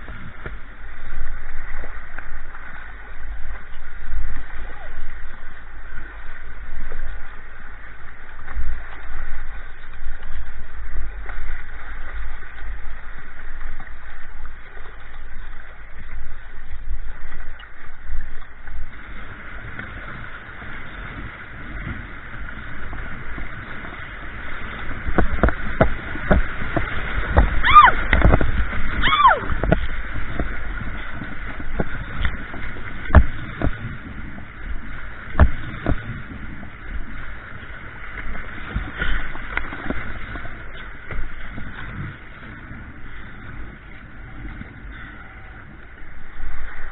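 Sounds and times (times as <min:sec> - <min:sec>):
paddle splashes and knocks: 0:00.0 - 0:45.1
low rumble: 0:00.0 - 0:46.9
river water rushing and splashing: 0:00.0 - 0:46.9.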